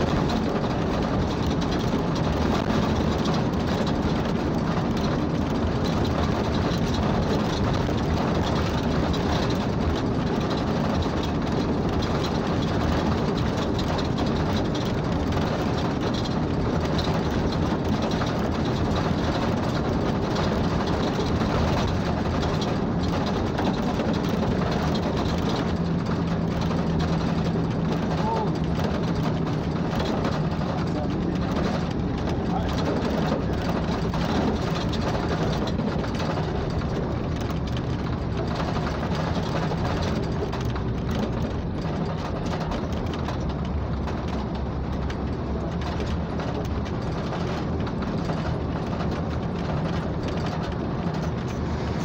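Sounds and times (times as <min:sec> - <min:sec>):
vehicle engine hum and road noise: 0:00.0 - 0:52.0.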